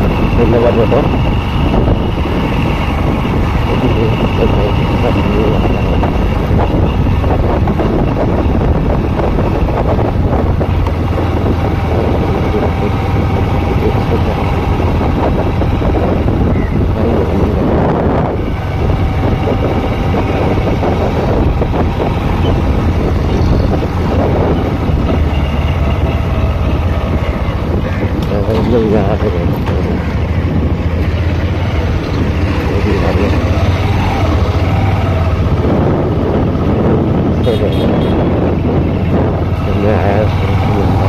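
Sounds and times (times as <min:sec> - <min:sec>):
motorcycle engine: 0:00.0 - 0:41.0
road noise: 0:00.0 - 0:41.0
wind buffeting microphone: 0:00.0 - 0:41.0.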